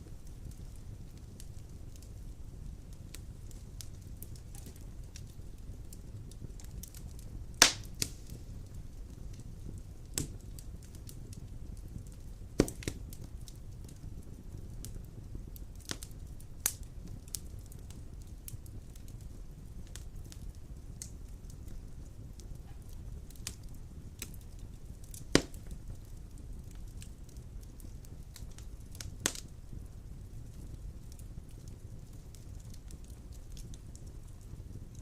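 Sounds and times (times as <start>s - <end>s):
logs burning in a fireplace: 0.0s - 35.0s.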